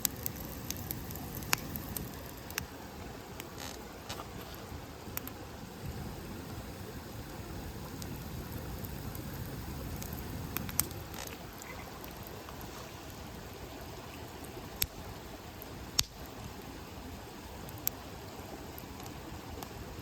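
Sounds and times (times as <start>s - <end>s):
campfire flame rushing: 0.0s - 20.0s
fire crackling and popping: 0.0s - 20.0s.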